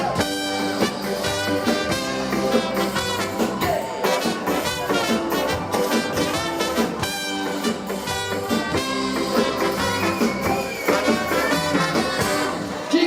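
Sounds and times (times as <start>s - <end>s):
trumpet and trombone melody: 0.0s - 12.9s
ska band playing: 0.0s - 13.0s.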